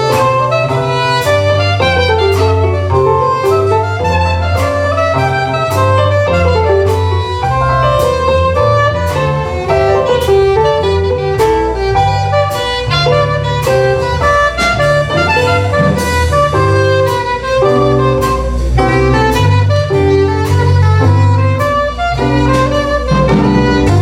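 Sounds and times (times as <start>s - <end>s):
instrumental ensemble music: 0.0s - 24.0s.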